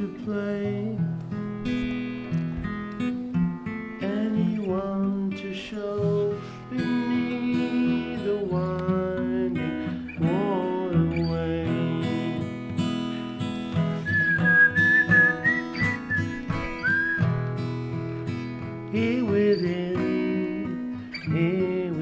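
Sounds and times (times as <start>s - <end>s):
acoustic guitar chords: 0.0s - 22.0s.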